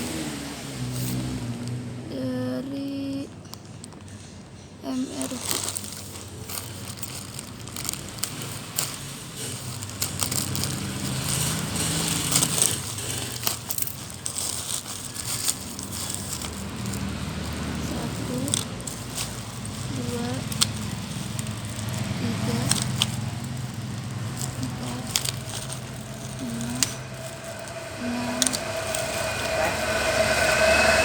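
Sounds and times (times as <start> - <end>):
packaging crinkling by hand: 2.9 - 4.3, 4.9 - 30.7
small clicks and crackles: 3.1 - 30.0.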